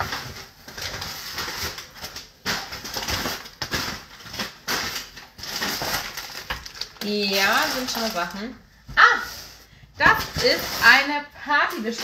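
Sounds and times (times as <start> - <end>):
cardboard rustling and crackling: 0.0 - 12.0.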